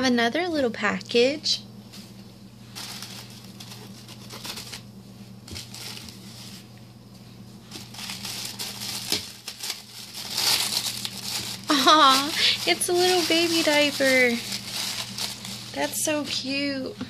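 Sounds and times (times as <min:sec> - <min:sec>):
wrapping paper rustling and crinkling: 0:01.9 - 0:16.9.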